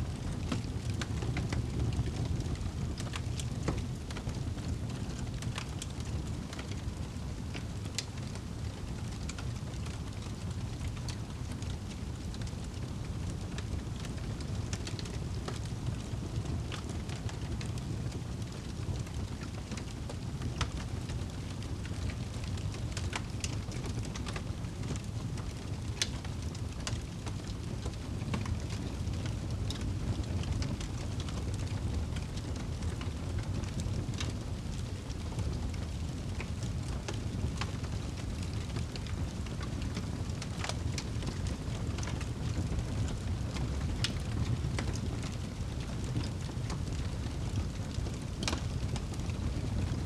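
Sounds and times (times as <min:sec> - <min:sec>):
fire popping and snapping: 0:00.1 - 0:50.0
wood fire crackling: 0:00.1 - 0:50.0.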